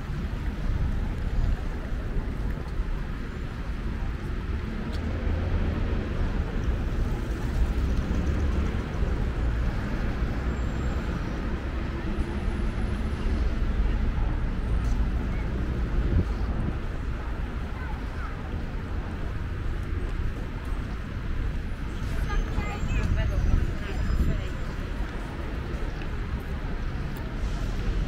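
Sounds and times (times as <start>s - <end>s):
people milling about: 0.0s - 28.0s
traffic rumble: 0.0s - 28.0s.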